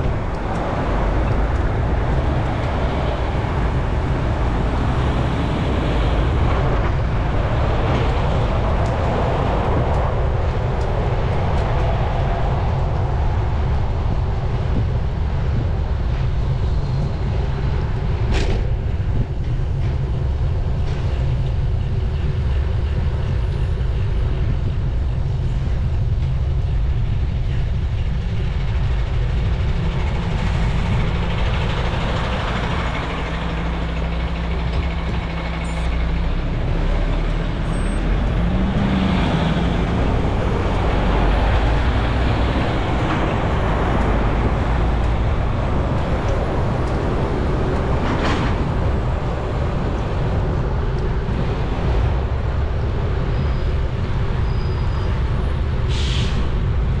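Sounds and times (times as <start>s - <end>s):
heavy road traffic: 0.0s - 57.0s
low engine hum: 0.0s - 57.0s
wind on microphone: 0.0s - 57.0s.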